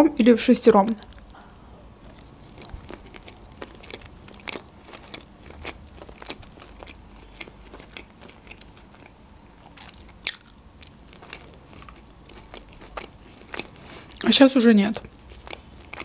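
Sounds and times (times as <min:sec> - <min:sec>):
chewing clicks and crunches: 0:02.0 - 0:14.3, 0:14.9 - 0:16.0.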